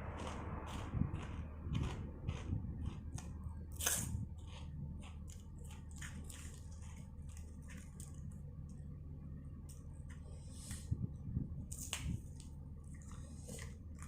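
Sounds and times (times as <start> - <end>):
person chewing and crunching food: 0.0 - 14.0.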